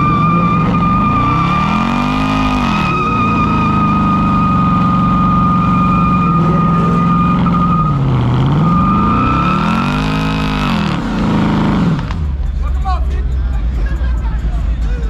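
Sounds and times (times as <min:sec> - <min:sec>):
high-pitched squeal: 0:00.0 - 0:12.1
car engine revving: 0:00.0 - 0:15.0.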